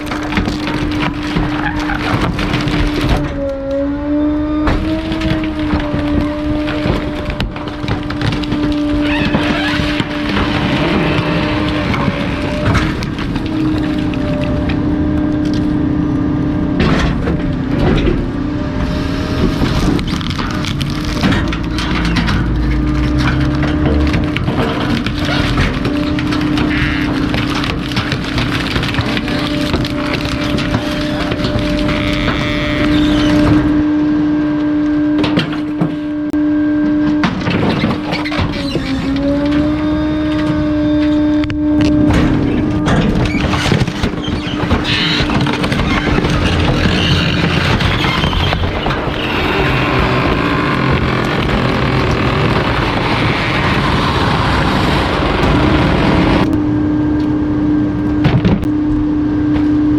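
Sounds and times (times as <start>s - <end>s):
material being crushed: 0.0s - 15.9s, 16.7s - 34.0s, 37.2s - 56.6s
garbage compactor humming: 0.0s - 59.9s.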